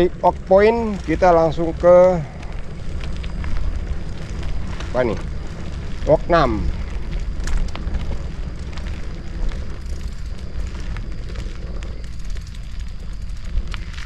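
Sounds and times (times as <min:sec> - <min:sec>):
bicycle clicks and rattles: 0:00.0 - 0:14.0
wind rumble on microphone: 0:00.0 - 0:14.0.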